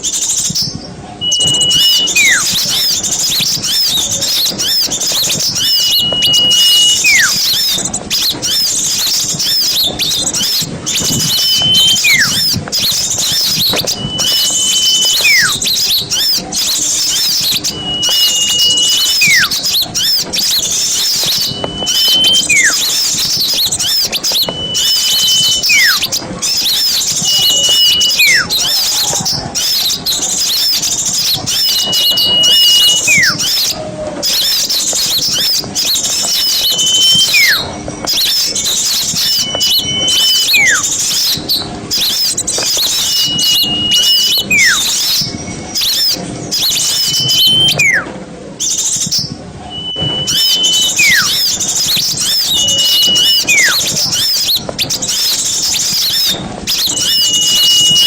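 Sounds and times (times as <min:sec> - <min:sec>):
songbird flock chattering: 0:00.0 - 0:48.0, 0:48.6 - 0:58.0
whistle sliding down: 0:00.4 - 0:48.1, 0:49.7 - 0:58.0.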